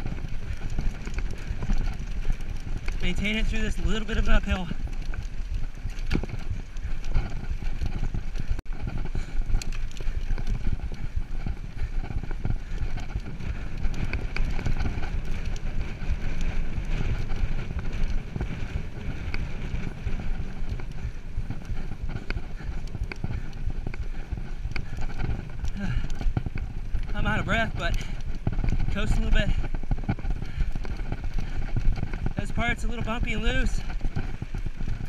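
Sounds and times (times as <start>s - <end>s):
bike rattling over bumpy ground: 0.0s - 35.0s
wind rumbling on microphone: 0.0s - 35.0s.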